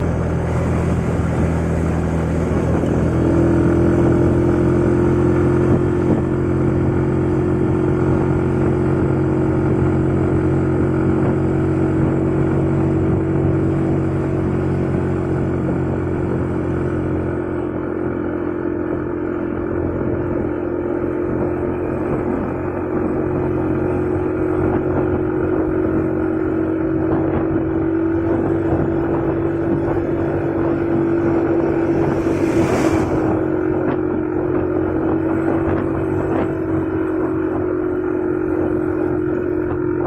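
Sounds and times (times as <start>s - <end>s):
scooter engine running hard: 0.0s - 40.0s.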